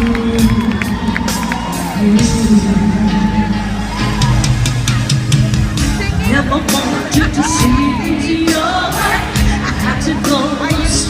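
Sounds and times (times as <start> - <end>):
loud concert music over pa: 0.0 - 11.0.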